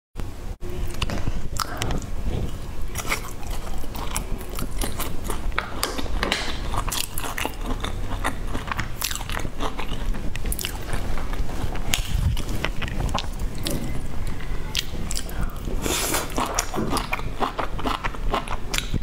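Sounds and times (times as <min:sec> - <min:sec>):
chewing crunchy grilled meat: 0:00.8 - 0:19.0.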